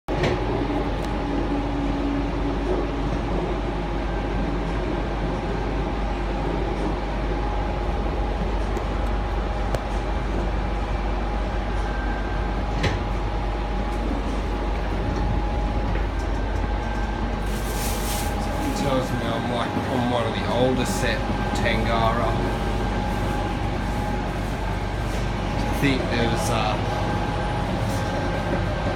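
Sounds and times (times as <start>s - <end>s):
electric train hum and whine: 0.1s - 28.9s.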